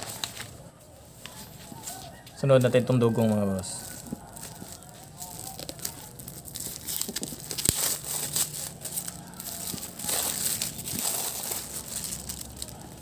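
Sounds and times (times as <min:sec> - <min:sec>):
wrapping crinkling and tearing: 0:00.0 - 0:13.0.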